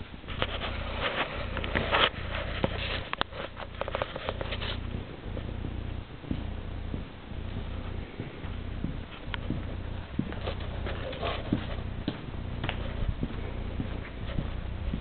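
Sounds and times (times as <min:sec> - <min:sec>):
footsteps: 0:00.0 - 0:15.0
steady low hum: 0:00.0 - 0:15.0.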